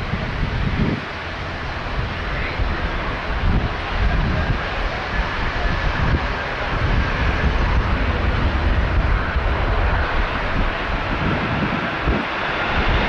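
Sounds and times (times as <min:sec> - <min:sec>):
airliner jet noise: 0:00.0 - 0:13.0.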